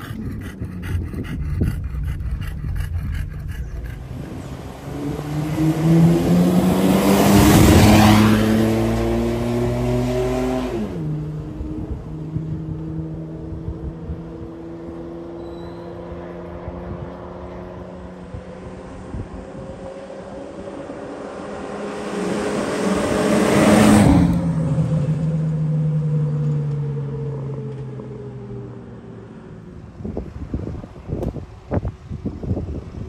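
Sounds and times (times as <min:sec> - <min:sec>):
car engine accelerating hard: 0:00.0 - 0:32.3
vehicle passing by: 0:00.0 - 0:33.0.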